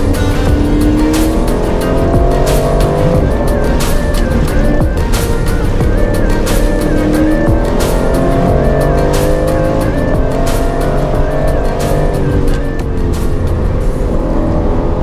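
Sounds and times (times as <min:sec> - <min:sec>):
car engine accelerating: 0:00.0 - 0:15.0
synth music with steady beat: 0:00.0 - 0:15.0.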